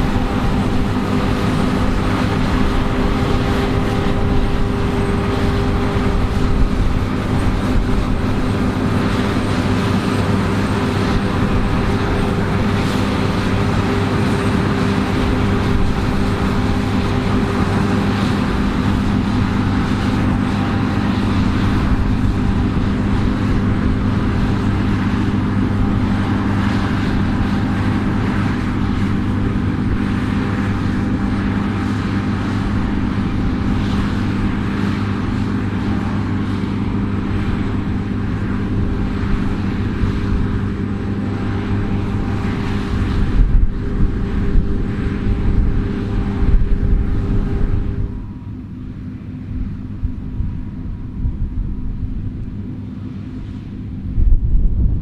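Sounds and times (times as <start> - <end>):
combine harvester engine drone: 0.0 - 55.0
higher hum: 0.0 - 55.0.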